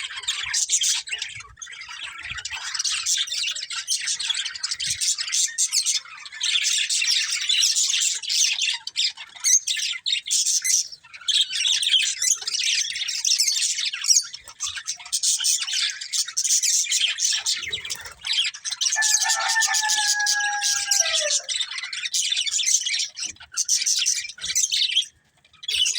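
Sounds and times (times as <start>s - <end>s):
budgerigars chattering: 0.0s - 25.9s.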